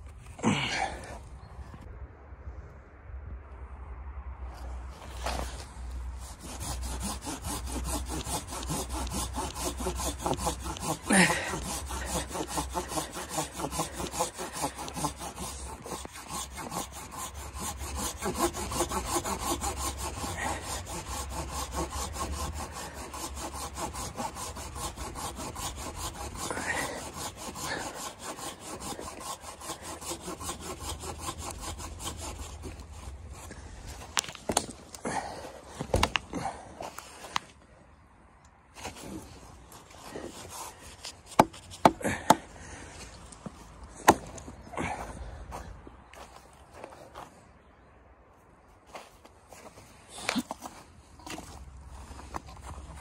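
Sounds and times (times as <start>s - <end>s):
hand saw cutting log: 5.0s - 37.4s, 38.8s - 47.3s, 48.9s - 53.0s.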